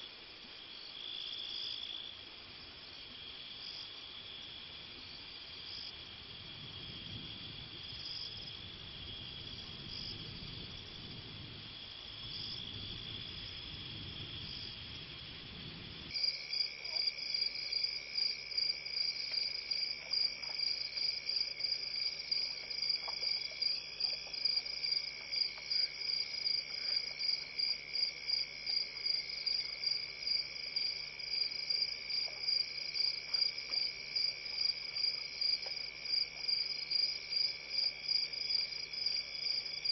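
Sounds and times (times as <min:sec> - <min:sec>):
crickets chirping rhythmically: 0:00.0 - 0:39.9
night insect chorus: 0:00.0 - 0:39.9.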